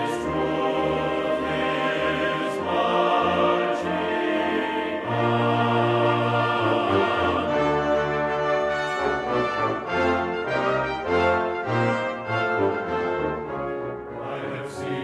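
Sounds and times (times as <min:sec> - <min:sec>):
choir singing: 0:00.0 - 0:15.0
orchestral music with brass: 0:00.0 - 0:15.0.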